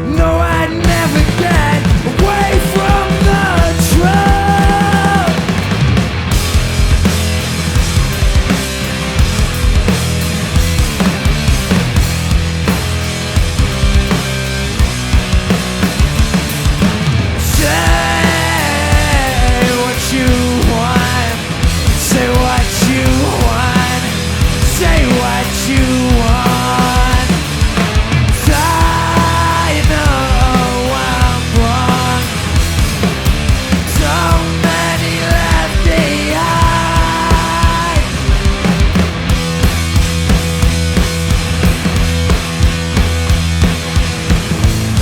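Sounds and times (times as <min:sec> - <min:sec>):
rock band playing: 0:00.0 - 0:45.0.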